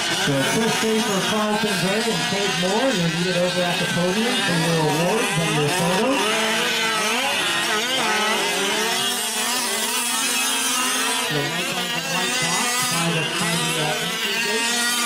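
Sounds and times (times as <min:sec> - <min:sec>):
small two-stroke engines revving: 0:00.0 - 0:15.0.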